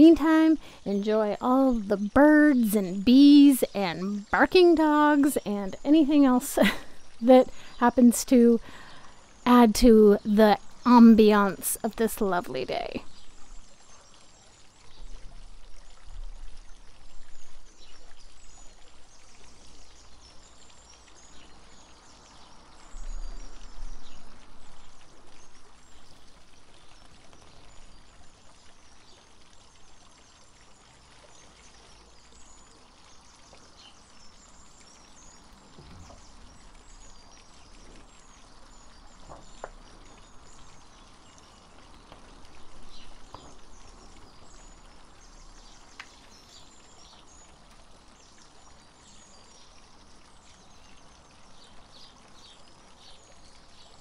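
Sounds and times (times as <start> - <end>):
fountain water trickling: 0.0 - 54.0
small birds chirping: 0.0 - 54.0.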